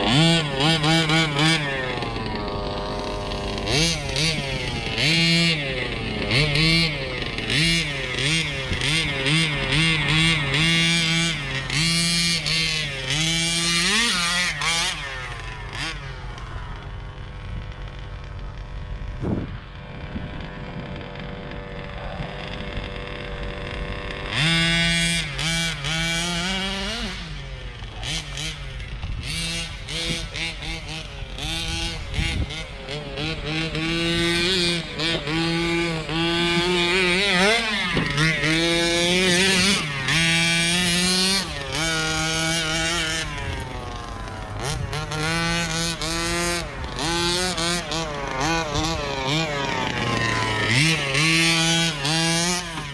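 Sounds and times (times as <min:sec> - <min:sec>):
small two-stroke engine revving: 0:00.0 - 0:52.9.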